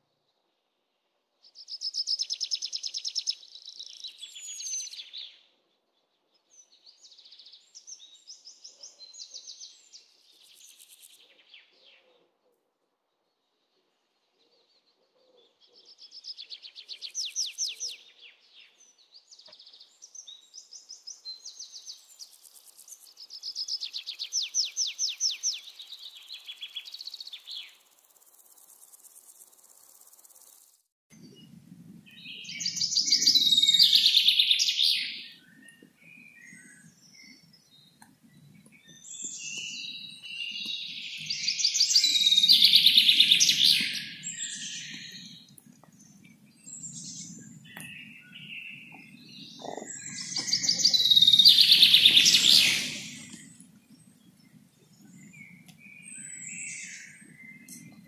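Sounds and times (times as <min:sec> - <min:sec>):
small birds singing trills: 0:01.4 - 0:12.2, 0:13.2 - 0:58.0.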